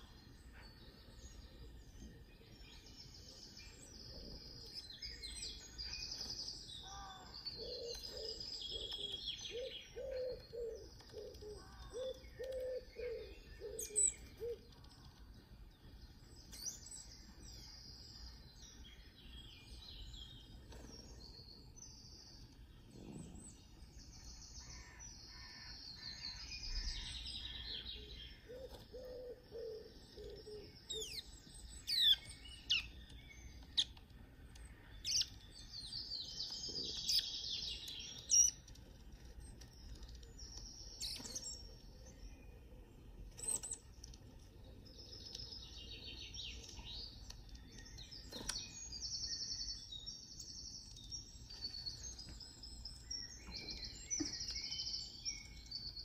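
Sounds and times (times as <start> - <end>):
birdsong through laptop speakers: 0.0 - 56.0.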